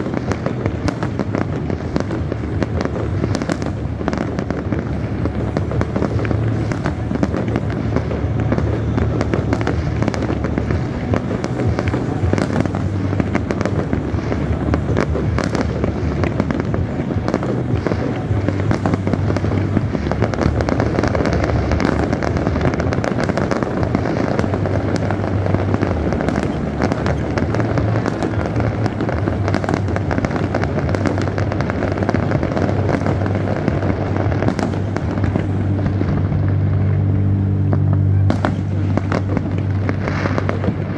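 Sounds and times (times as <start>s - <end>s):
fireworks bangs and crackling: 0.0s - 40.9s
low steady hum: 0.0s - 40.9s.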